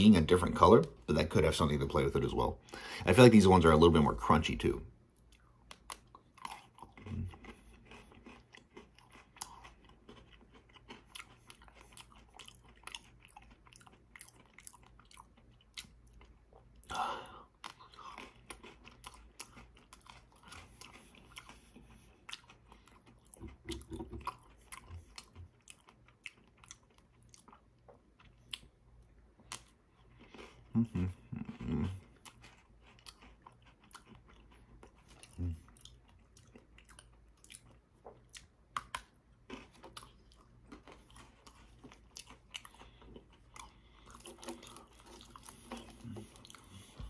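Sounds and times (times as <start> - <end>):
chewing crisp biscuit sticks: 4.1 - 47.0.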